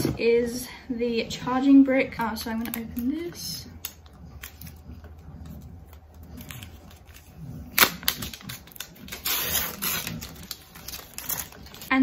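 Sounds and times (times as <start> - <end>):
plastic crinkling: 2.1 - 12.0.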